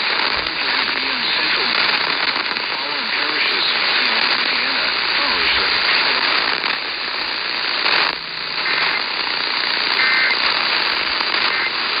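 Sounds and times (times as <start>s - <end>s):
radio static hiss and crackle: 0.0s - 12.0s.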